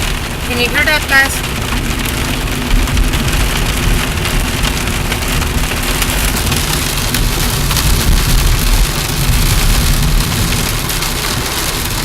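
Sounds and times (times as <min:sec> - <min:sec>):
low rumble: 0:00.0 - 0:12.0
rain on a car roof: 0:00.0 - 0:12.0.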